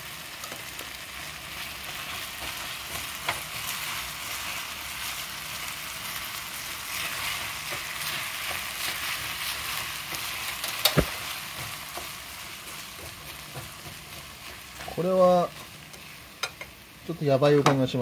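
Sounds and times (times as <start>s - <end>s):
noodles sizzling in oil: 0.0s - 18.0s.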